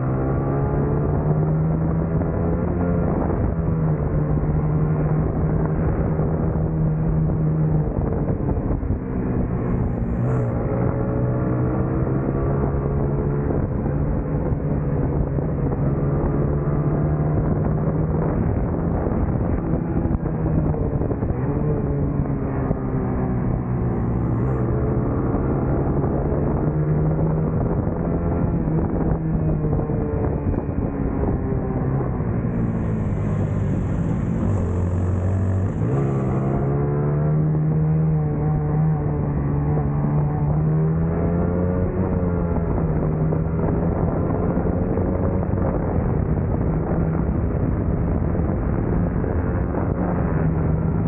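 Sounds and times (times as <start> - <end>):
racing motorcycle engine revving: 0.0 - 51.0.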